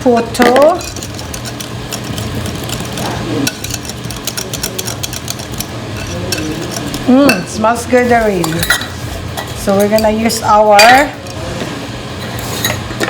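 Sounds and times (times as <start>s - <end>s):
steady low hum: 0.0s - 13.0s
utensil scraping a bowl: 0.0s - 13.0s.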